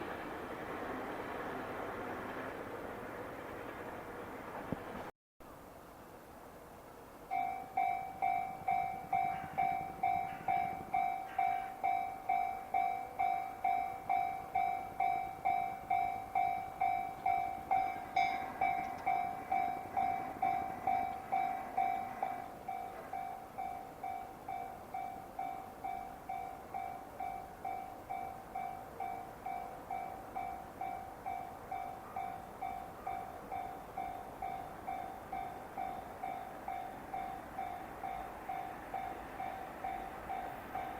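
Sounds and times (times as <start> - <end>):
train rail noise: 0.0 - 40.9
level crossing alarm dinging: 7.3 - 40.9.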